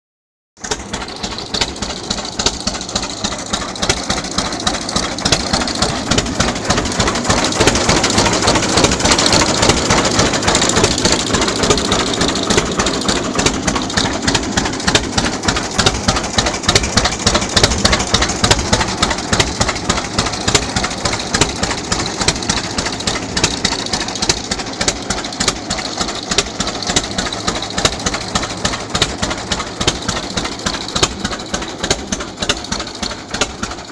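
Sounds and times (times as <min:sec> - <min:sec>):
tractor engine popping: 0:00.6 - 0:33.9.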